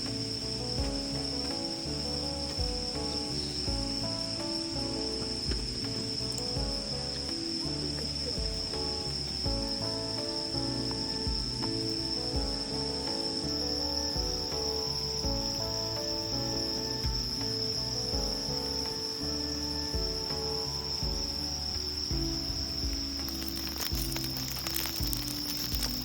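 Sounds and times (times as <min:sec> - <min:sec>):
background music with low beat: 0:00.0 - 0:26.0
crickets trilling: 0:00.0 - 0:26.0
faint crackling: 0:00.0 - 0:26.0.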